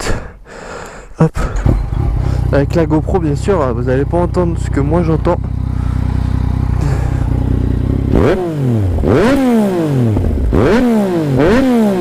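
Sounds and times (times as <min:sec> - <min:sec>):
motorcycle engine idling and revving: 0:01.4 - 0:12.0.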